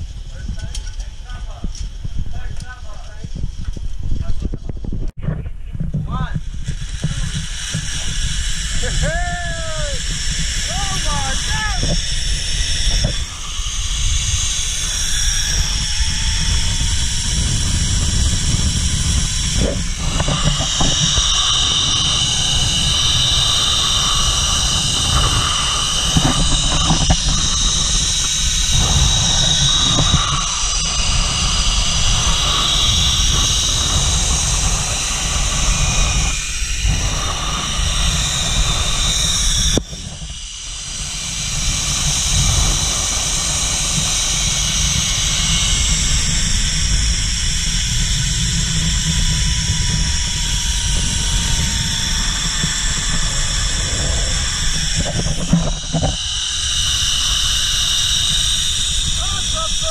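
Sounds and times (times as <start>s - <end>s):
wind rushing over microphone: 0.0s - 59.9s
pulleys whirring on cable: 6.1s - 59.9s.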